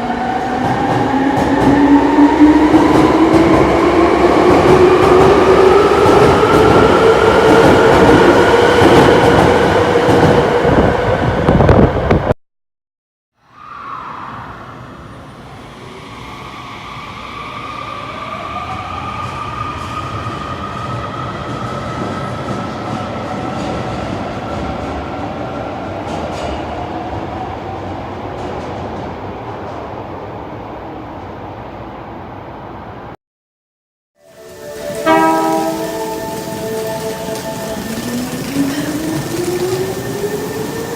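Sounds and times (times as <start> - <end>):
subway train rumble: 0.0 - 12.4, 13.6 - 33.2, 34.2 - 40.9.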